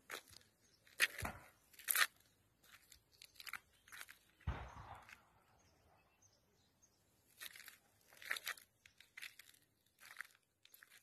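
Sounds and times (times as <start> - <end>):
footsteps crunching on debris: 0.0 - 5.3, 7.2 - 11.0.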